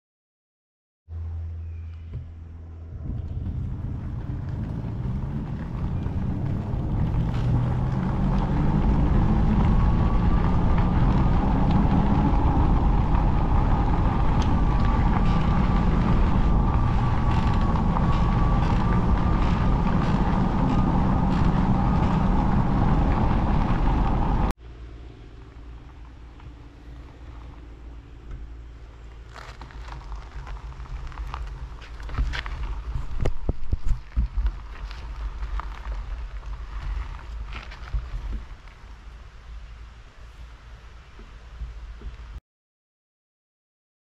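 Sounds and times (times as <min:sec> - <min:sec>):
tyre and drivetrain hum: 0:01.2 - 0:42.4
wind rumble on microphone: 0:02.1 - 0:24.6, 0:25.4 - 0:42.4.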